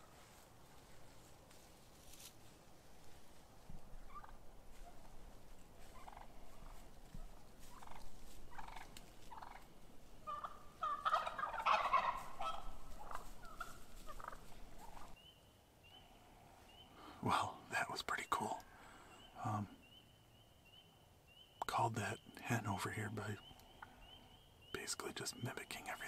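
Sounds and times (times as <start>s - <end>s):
wild turkeys calling: 3.7s - 25.9s.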